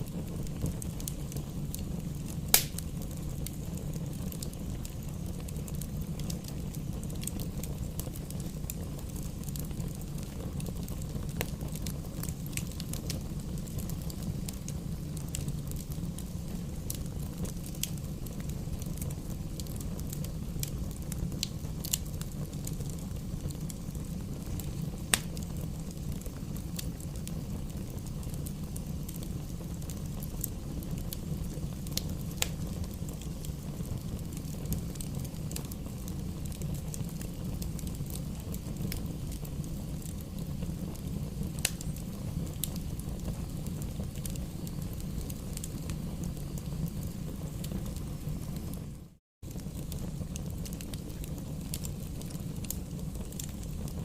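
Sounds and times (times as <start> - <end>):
campfire crackling and popping: 0.0 - 54.0
low fire rumble: 0.0 - 54.0.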